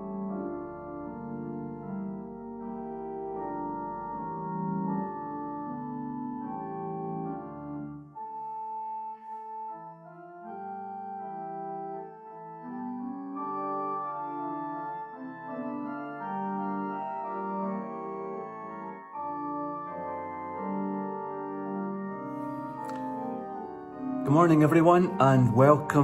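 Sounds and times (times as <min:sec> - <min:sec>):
organ playing slow chords: 0:00.0 - 0:26.0.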